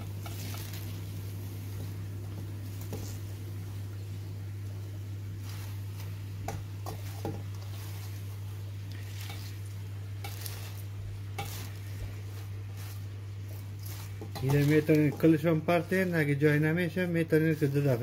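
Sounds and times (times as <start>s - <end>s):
spinach leaves rustling: 0.0s - 3.7s, 5.3s - 18.0s
sizzling in a pot: 0.0s - 18.0s
steady low hum: 0.0s - 18.0s.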